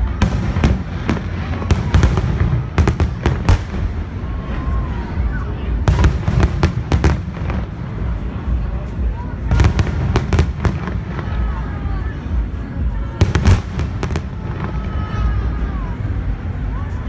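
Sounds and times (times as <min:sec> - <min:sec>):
fireworks bursting with sharp bangs: 0:00.0 - 0:16.6
continuous low rumble: 0:00.0 - 0:17.0.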